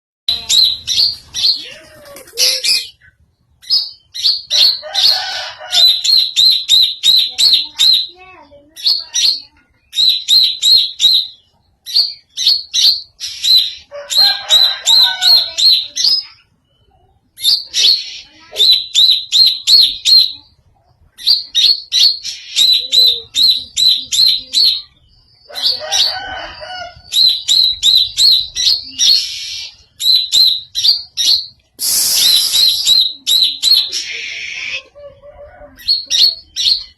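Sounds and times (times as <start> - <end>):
bird singing high chirps: 0.3 - 1.8, 2.4 - 5.2, 5.8 - 20.6, 21.2 - 35.0, 35.8 - 36.9
harsh bird chattering: 0.3 - 16.5, 17.3 - 36.9.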